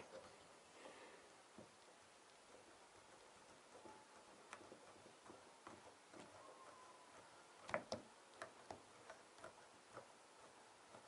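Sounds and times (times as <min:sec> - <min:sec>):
faint ticking and creaking: 0:00.0 - 0:11.0.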